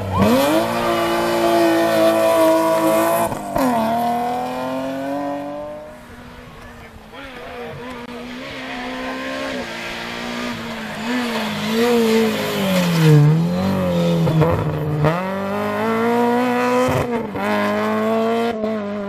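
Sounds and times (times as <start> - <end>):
rally car engine passing: 0.0 - 19.0.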